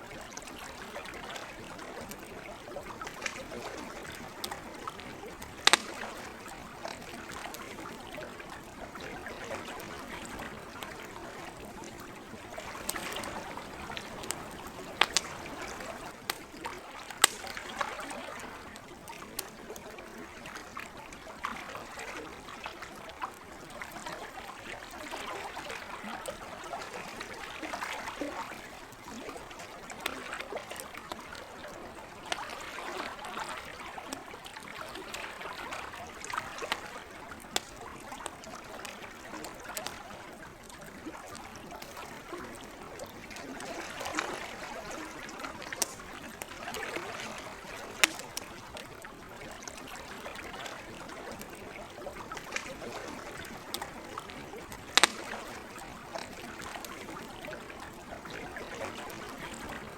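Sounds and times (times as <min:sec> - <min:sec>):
campfire pops and crackles: 0:00.0 - 0:20.3, 0:26.1 - 0:59.9
water trickling and lapping: 0:00.0 - 0:59.9.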